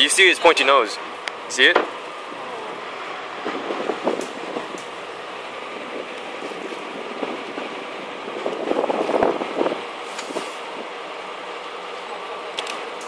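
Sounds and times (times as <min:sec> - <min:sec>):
fishing boat engine: 0:00.0 - 0:13.0
water along boat hull: 0:00.0 - 0:13.0.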